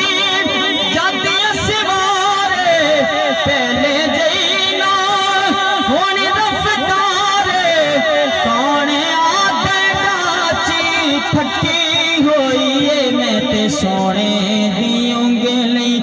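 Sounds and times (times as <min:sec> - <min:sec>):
man singing over loudspeaker: 0:00.0 - 0:16.0.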